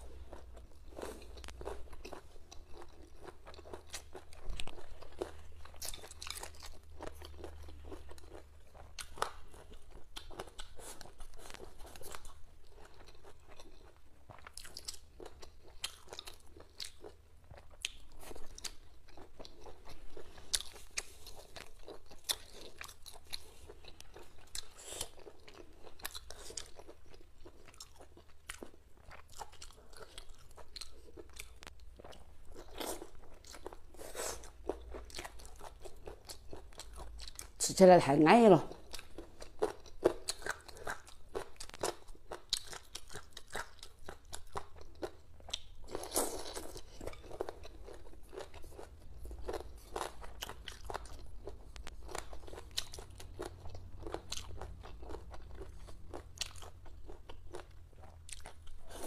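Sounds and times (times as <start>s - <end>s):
person chewing and crunching: 0.0s - 37.6s, 38.7s - 59.0s.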